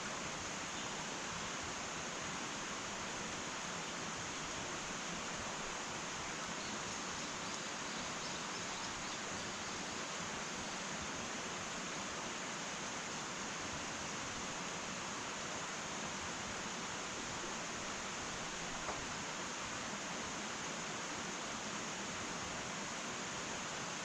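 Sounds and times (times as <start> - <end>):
wood fire hissing: 0.0 - 24.0.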